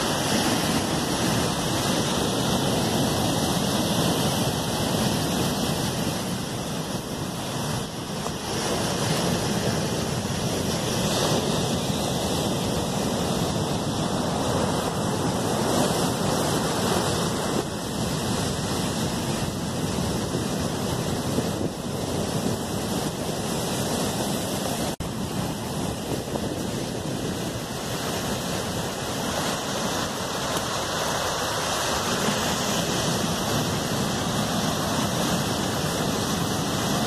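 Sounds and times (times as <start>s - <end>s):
ocean surf breaking: 0.0s - 37.0s
wind on microphone: 0.0s - 37.0s.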